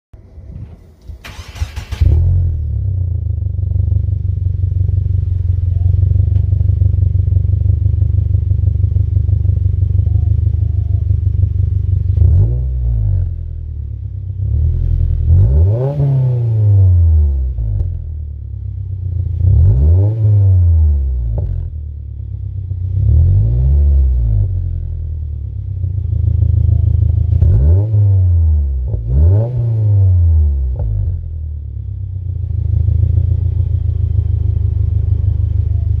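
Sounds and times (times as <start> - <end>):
car engine idling and revving: 0.2 - 36.0.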